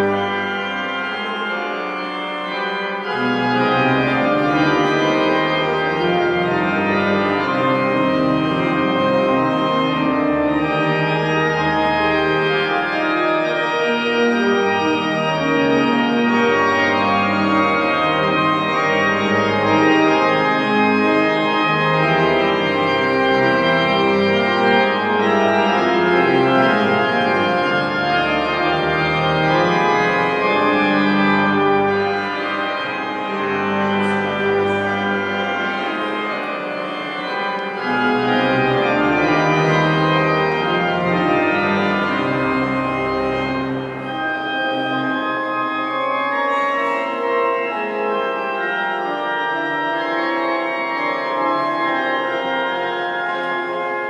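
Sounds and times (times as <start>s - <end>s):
organ playing chords: 0.0s - 54.0s.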